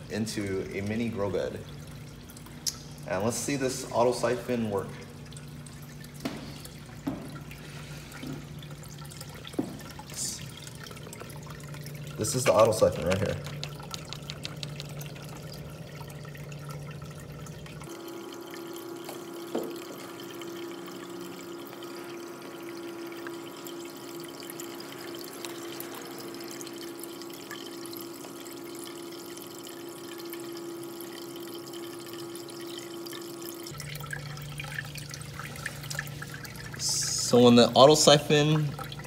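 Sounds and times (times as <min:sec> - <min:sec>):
steady pump hum: 0:00.0 - 0:39.0
water trickling: 0:00.0 - 0:39.0.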